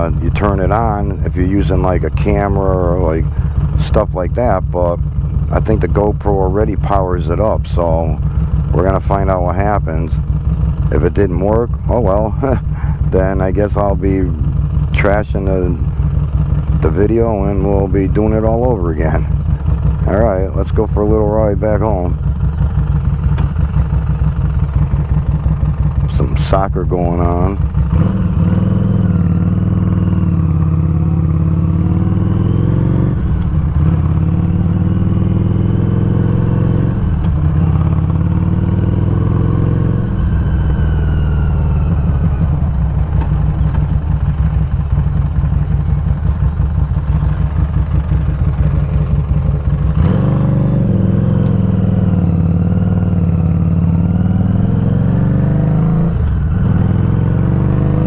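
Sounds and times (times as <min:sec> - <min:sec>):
motorcycle engine shifting gears: 0:00.0 - 0:58.0.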